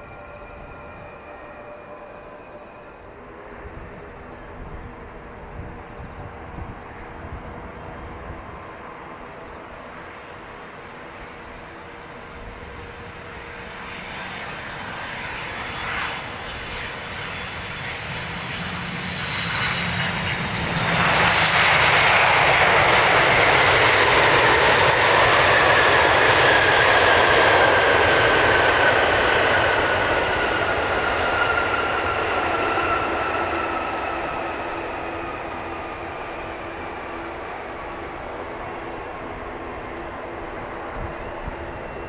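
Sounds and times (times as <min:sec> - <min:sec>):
high jet whine falling in pitch: 0:00.0 - 0:42.0
jet airliner landing roar: 0:00.0 - 0:42.0.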